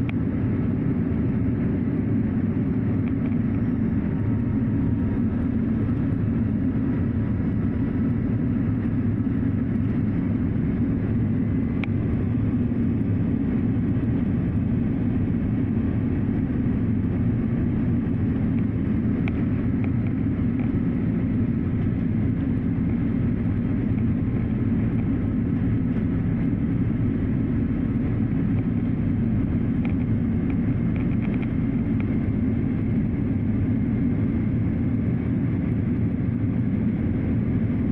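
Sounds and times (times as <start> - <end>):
airliner cabin engine drone: 0.0 - 37.9.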